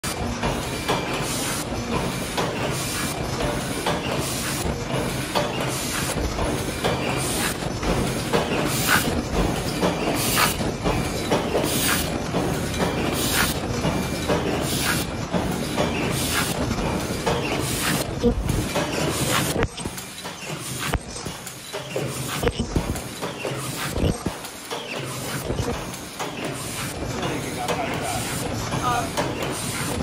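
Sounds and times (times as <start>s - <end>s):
machine clattering: 0.0s - 30.0s.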